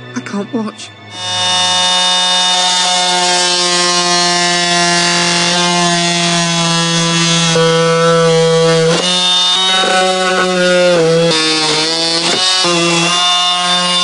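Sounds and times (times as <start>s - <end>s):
power tool cutting plastic: 1.1s - 14.0s.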